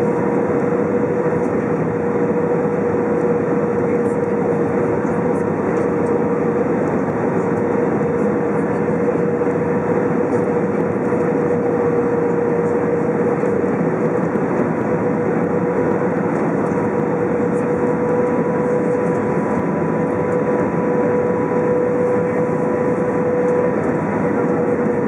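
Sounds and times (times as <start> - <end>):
airplane cabin airflow and engines: 0.0 - 25.0.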